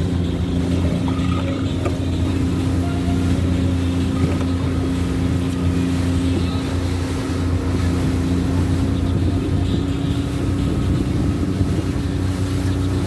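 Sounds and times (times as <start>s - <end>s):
boat engine droning: 0.0s - 13.0s
wind on microphone: 0.0s - 13.0s.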